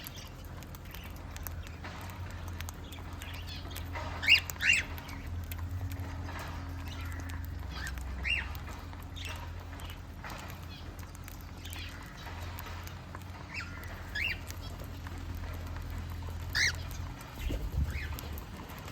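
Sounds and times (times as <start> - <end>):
birds chirping: 0.0 - 18.9
steady low hum: 0.0 - 18.9.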